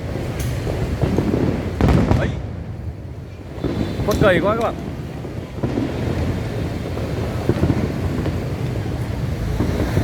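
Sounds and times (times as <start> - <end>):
distant fireworks booming: 0.0 - 10.0.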